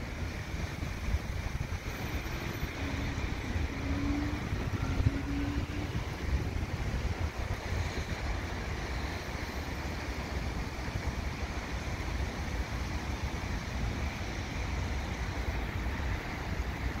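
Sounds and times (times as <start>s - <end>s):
freight train rumble: 0.0s - 17.0s
wind buffeting microphone: 0.0s - 17.0s.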